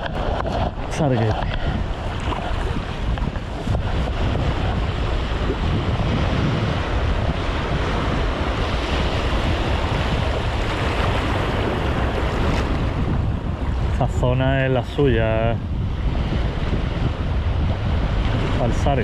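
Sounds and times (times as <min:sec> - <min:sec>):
sea waves splashing: 0:00.0 - 0:19.0
wind rumbling on microphone: 0:00.0 - 0:19.0.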